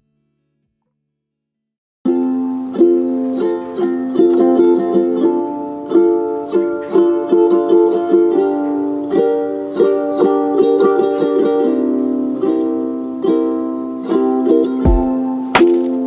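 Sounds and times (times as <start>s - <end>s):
gentle plucked string music: 2.1s - 16.0s.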